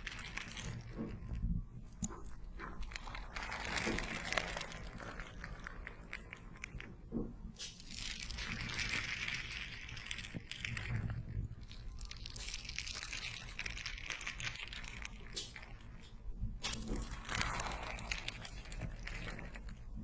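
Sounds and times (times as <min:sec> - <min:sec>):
gel patches crinkling: 0:00.0 - 0:20.0.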